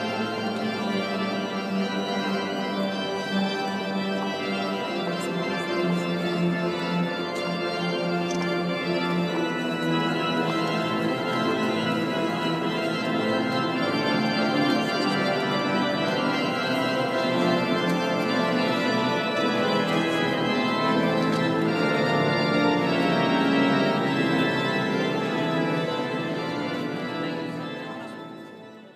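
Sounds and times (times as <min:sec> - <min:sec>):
pipe organ playing chords: 0:00.0 - 0:28.9.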